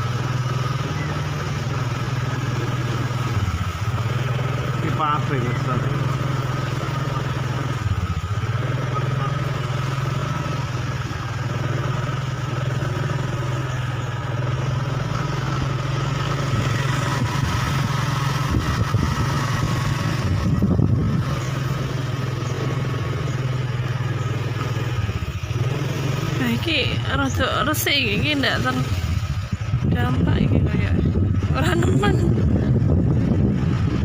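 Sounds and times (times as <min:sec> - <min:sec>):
motorcycle engine droning: 0:00.0 - 0:34.0
road noise: 0:00.0 - 0:34.0.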